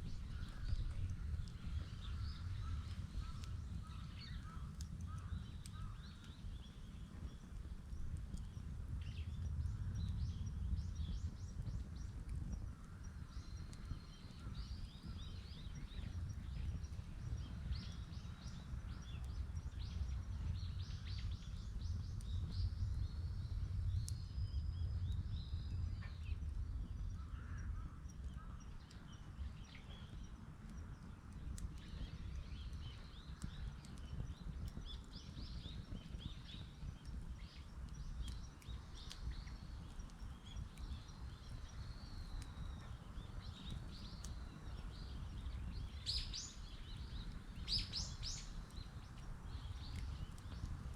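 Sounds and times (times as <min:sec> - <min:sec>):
bonfire rumble: 0:00.0 - 0:50.9
fire popping: 0:00.0 - 0:50.9
small birds chirping: 0:00.0 - 0:50.9.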